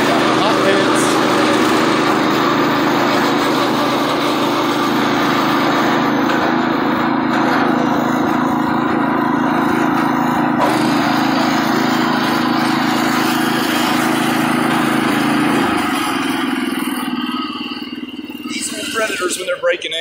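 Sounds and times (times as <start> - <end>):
riding tractor engine running: 0.0 - 20.0.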